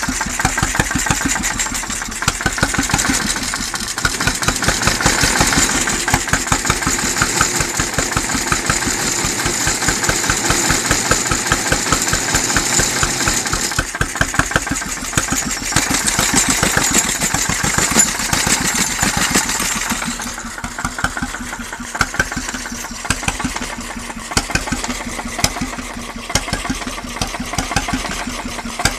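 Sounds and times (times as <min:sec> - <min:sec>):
hot-bulb engine running: 0:00.0 - 0:28.9.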